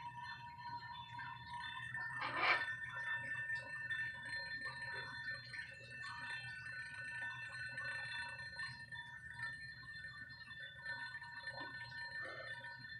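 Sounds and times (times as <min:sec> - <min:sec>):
crystal glasses ringing: 0:00.0 - 0:12.9
faint scattered sounds: 0:00.0 - 0:12.9.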